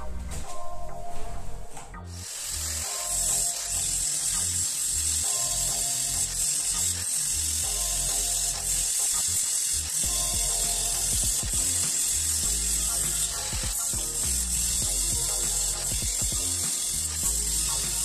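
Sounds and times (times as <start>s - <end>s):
background music: 0.0s - 18.0s
angle grinder grinding metal: 2.1s - 18.0s.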